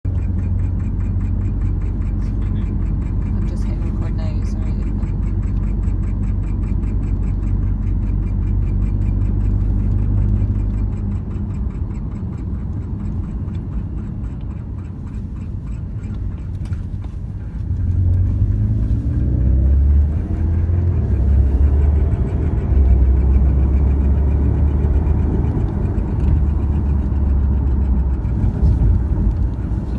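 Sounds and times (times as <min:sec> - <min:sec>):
car engine running: 0:00.0 - 0:29.9
rapid ticking from pulley: 0:00.0 - 0:29.9.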